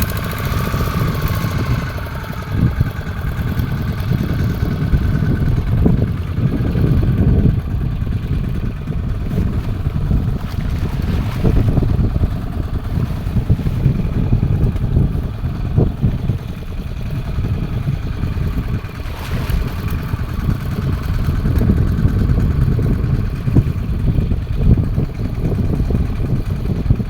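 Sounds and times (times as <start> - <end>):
boat motor rumble: 0.0 - 27.0
wind noise: 0.0 - 27.0.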